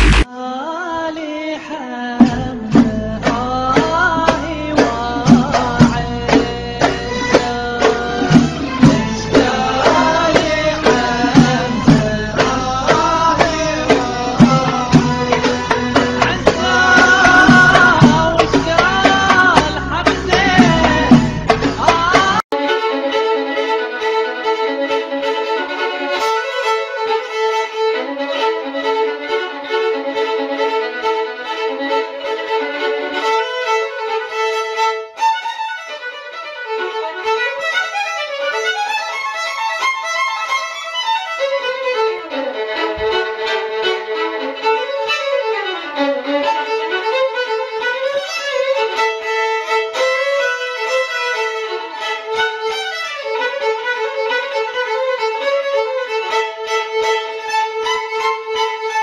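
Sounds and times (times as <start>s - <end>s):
fiddle tune: 2.2s - 59.0s.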